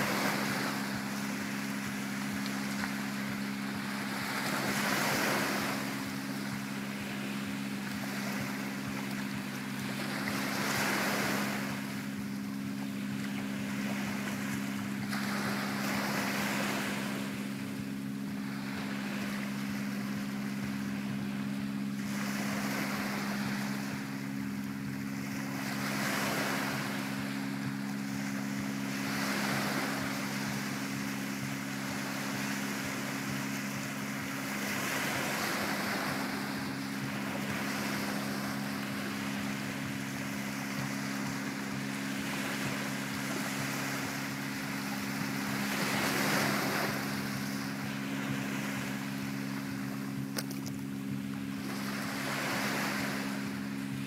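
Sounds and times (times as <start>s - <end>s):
steady low hum: 0.0s - 54.0s
waves breaking on sandy shore: 0.0s - 54.0s.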